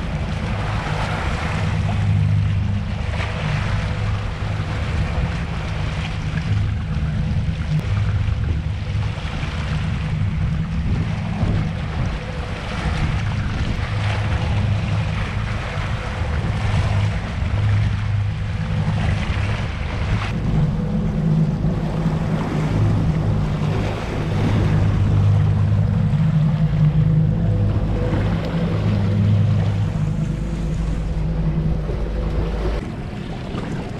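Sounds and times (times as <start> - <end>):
outboard motor droning: 0.0 - 33.9
water rushing past hull: 0.0 - 33.9
wind buffeting microphone: 0.0 - 33.9.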